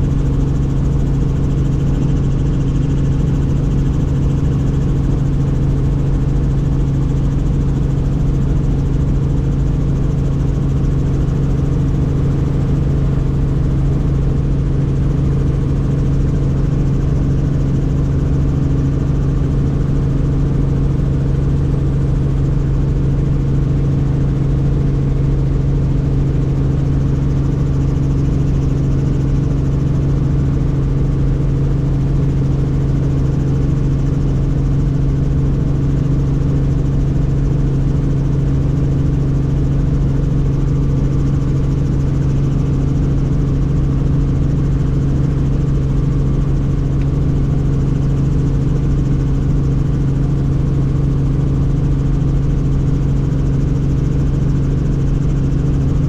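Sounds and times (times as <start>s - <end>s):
helicopter drone from on board: 0.0s - 56.0s.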